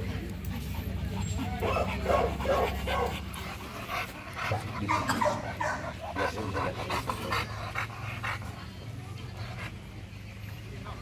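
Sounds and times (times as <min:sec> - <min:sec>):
dog panting: 0:00.2 - 0:09.8.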